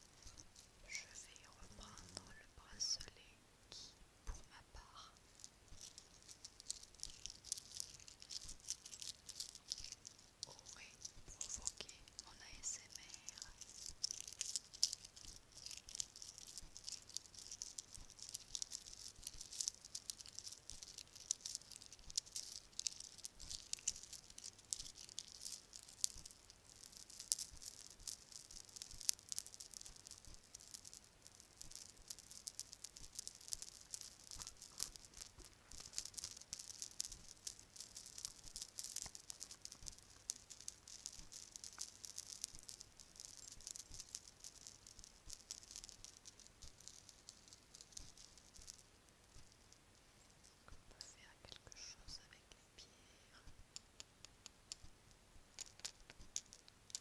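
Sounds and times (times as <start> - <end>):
bracelets rattling: 0.0 - 3.1, 4.8 - 52.4, 53.4 - 57.0.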